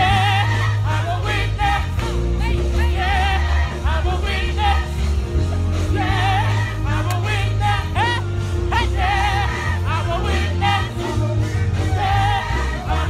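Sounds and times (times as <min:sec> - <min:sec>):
group of voices singing: 0:00.0 - 0:13.0
music with heavy bass line: 0:00.0 - 0:13.0.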